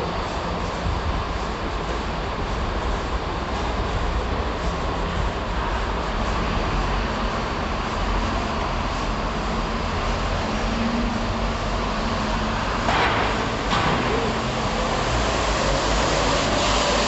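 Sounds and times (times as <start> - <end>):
traffic: 0.0 - 17.0
train rumble: 0.0 - 17.0.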